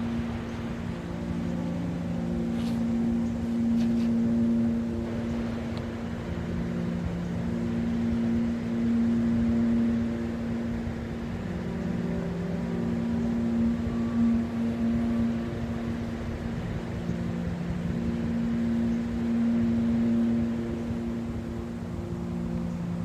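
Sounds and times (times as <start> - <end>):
soft synth chords: 0.0 - 23.0.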